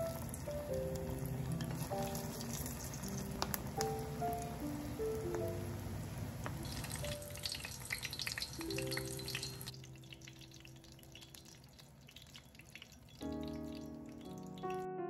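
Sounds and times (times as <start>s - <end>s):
soft piano music: 0.0s - 12.3s, 12.9s - 15.0s
food deep-frying in oil: 0.0s - 14.9s.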